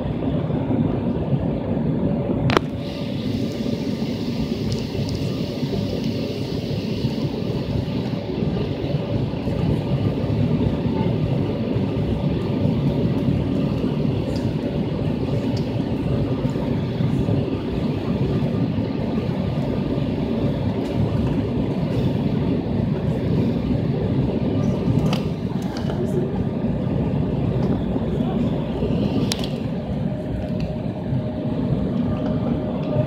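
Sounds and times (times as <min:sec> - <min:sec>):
jet engines roaring in cabin: 0:00.0 - 0:33.0.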